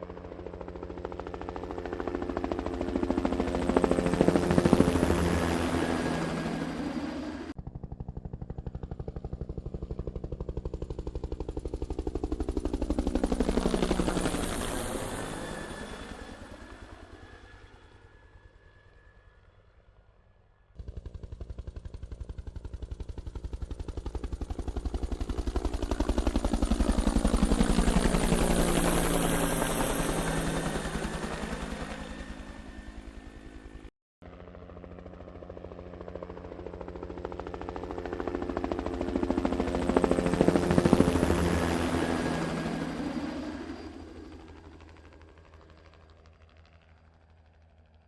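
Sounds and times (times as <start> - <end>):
helicopter rotor blades chopping: 0.0 - 18.8, 20.8 - 47.9.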